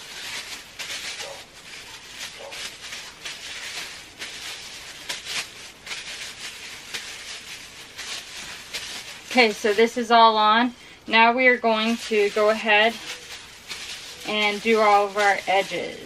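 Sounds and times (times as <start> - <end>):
rustling handling noise: 0.0 - 16.0.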